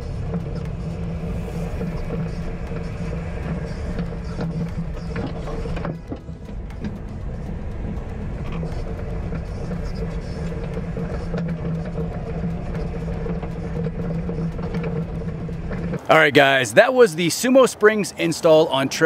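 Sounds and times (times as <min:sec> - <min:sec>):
vehicle road noise droning hum: 0:00.0 - 0:19.0.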